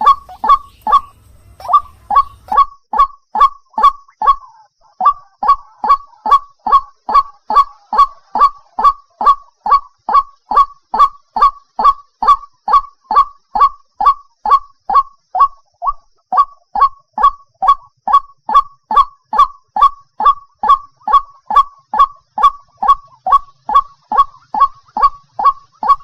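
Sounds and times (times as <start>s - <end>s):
waterhen calling kwak notes: 0.0s - 26.0s.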